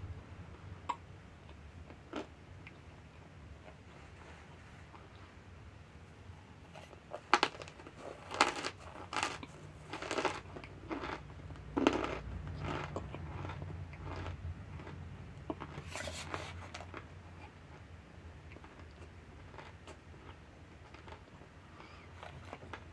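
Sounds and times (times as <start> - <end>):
chewing crunchy cornstarch: 0.9 - 3.9, 6.7 - 22.9.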